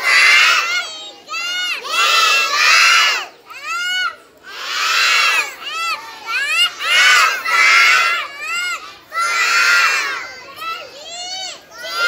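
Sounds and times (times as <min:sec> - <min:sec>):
children shouting together: 0:00.0 - 0:12.0.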